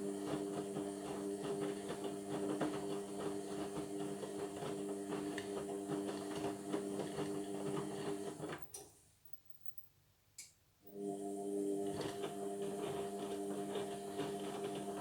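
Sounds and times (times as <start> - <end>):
washing machine motor humming: 0.0 - 8.7, 10.9 - 15.0.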